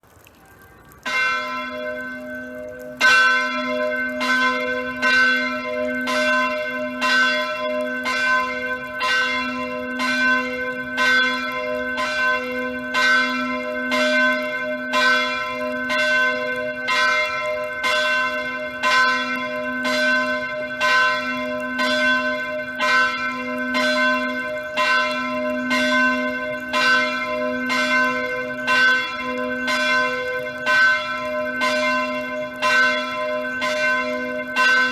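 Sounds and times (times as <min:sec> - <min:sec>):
church bells ringing: 0:01.0 - 0:34.9.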